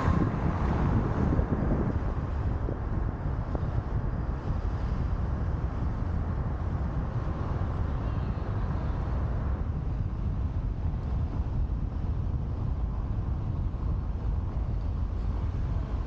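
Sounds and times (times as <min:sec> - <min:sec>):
road and tyre noise: 0:00.0 - 0:16.0
wind buffeting microphone: 0:00.0 - 0:16.0.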